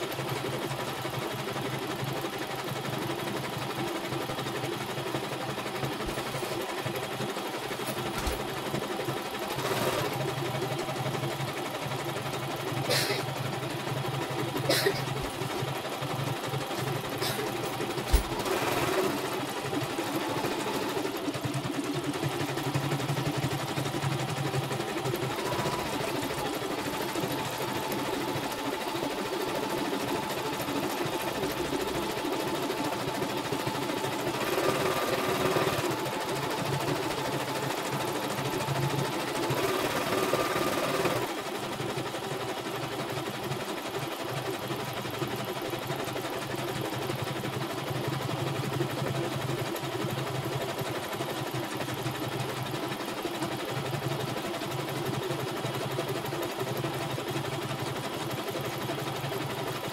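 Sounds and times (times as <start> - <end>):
embroidery machine stitching: 0.0 - 59.9.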